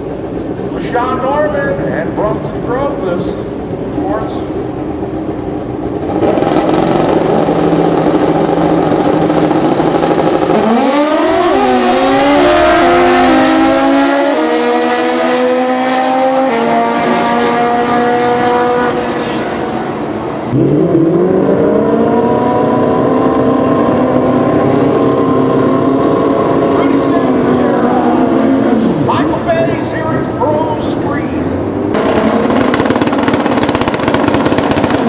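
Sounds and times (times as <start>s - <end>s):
motorcycle engine revving: 0.0s - 35.0s
second engine note rising: 0.0s - 35.0s.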